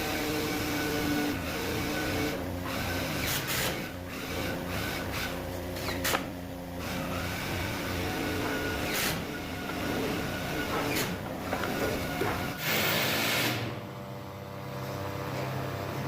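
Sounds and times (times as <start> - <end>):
power tool motor whining: 0.0 - 13.8.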